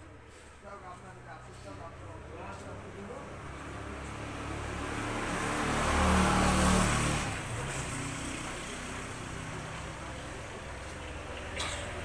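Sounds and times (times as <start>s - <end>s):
vehicle passing by: 2.1s - 12.0s.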